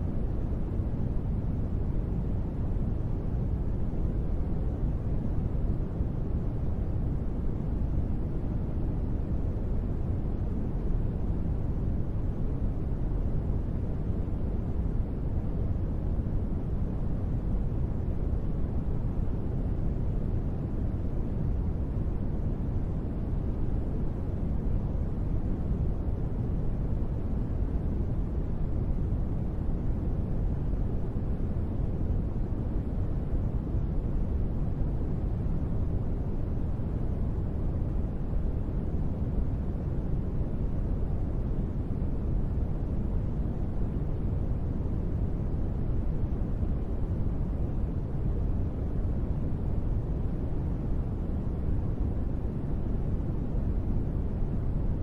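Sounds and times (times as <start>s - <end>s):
deep steady noise hiss: 0.0s - 55.0s.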